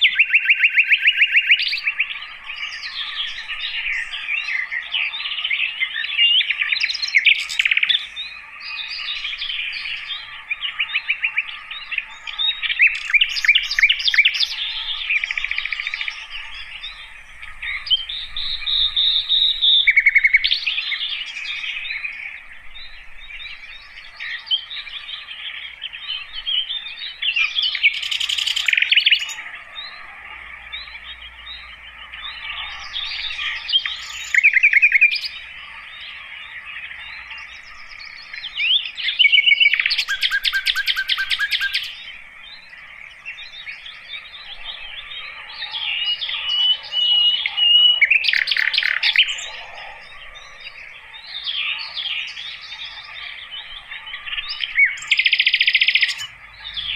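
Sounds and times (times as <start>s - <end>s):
bird singing trills and chirps: 0.0s - 56.9s.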